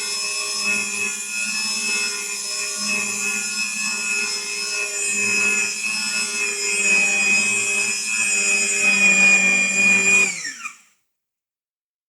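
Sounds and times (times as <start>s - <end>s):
threading machine motor whine: 0.0s - 10.8s.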